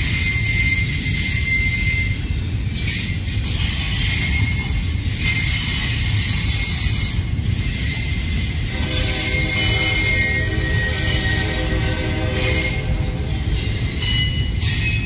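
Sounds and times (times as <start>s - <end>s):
high-pitched wheel squeal: 0.0s - 15.0s
train wheels rumbling on rail: 0.0s - 15.0s.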